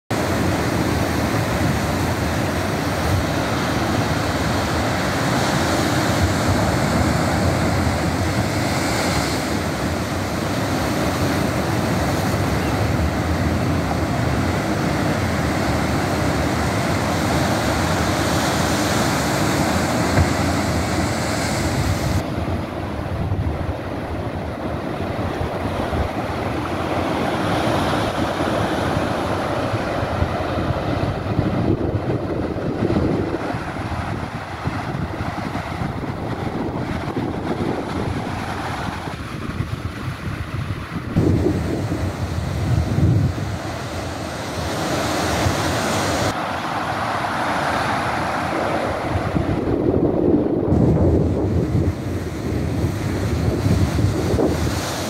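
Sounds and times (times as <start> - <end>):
ocean surf breaking on rocks: 0.1 - 55.0
wind buffeting microphone: 0.1 - 55.0.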